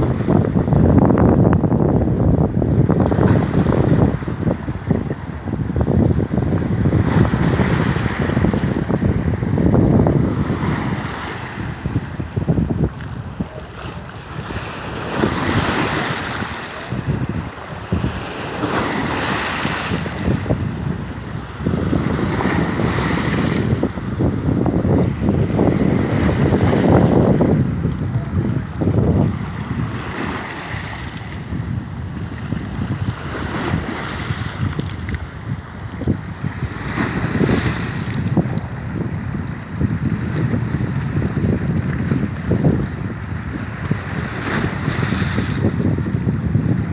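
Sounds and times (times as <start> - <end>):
waves breaking on shore: 0.0 - 46.9
wind buffeting microphone: 0.0 - 46.9.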